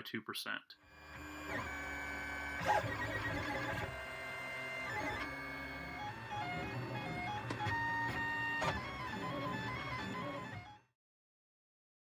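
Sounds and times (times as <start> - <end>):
stepper motors whirring: 0.9 - 10.8.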